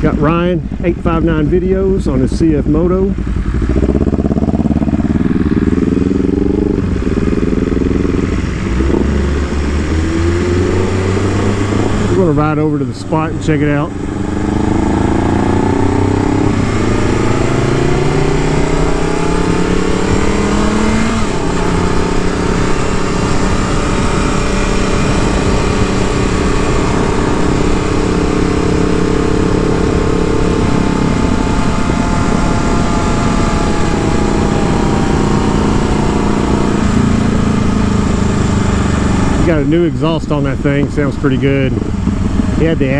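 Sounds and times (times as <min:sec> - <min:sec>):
motorcycle engine accelerating: 0:00.0 - 0:42.9
wind noise: 0:00.0 - 0:42.9.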